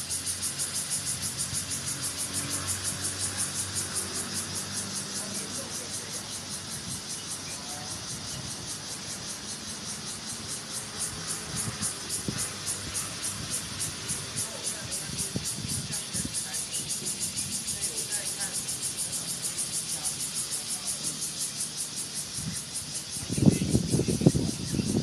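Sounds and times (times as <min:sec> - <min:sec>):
pulsing insect drone: 0:00.0 - 0:25.0.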